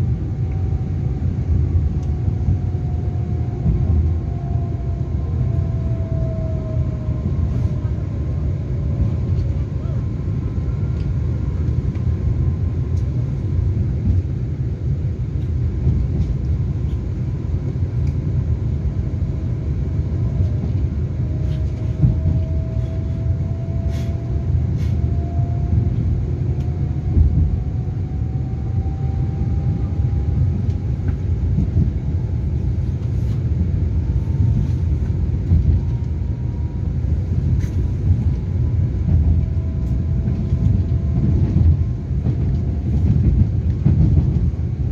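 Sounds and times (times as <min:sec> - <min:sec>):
electric train inverter whine: 0:00.0 - 0:44.9.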